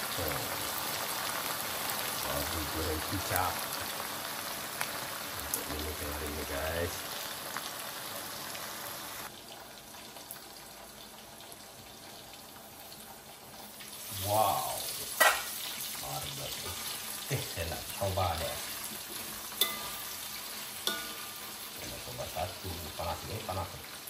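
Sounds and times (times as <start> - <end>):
meat sizzling in a wok: 0.0 - 24.0.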